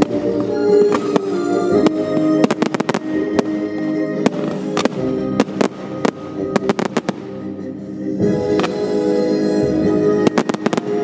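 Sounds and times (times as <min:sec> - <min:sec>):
fireworks bangs and crackles: 0:00.0 - 0:07.5, 0:08.2 - 0:09.0, 0:10.0 - 0:11.0
loud show music: 0:00.0 - 0:11.0.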